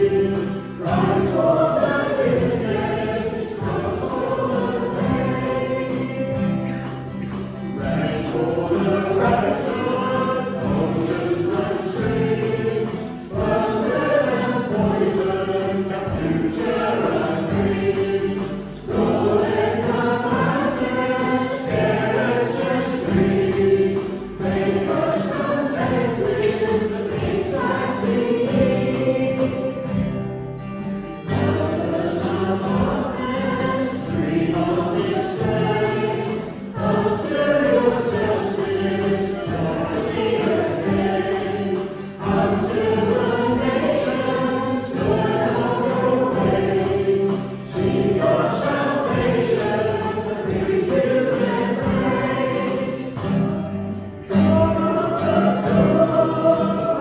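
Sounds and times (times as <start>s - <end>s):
congregation singing a hymn: 0.0s - 57.0s
instrumental accompaniment: 0.0s - 57.0s.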